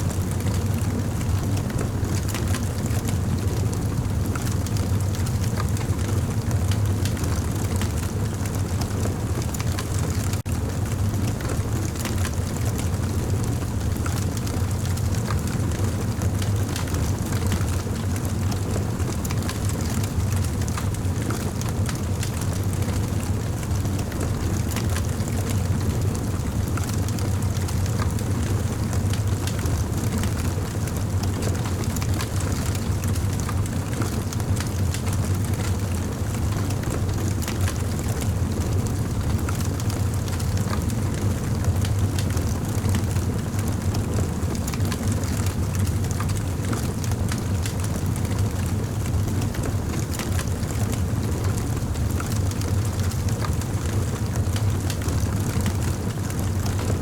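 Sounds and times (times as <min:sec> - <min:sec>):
campfire burning and crackling: 0:00.0 - 0:57.0.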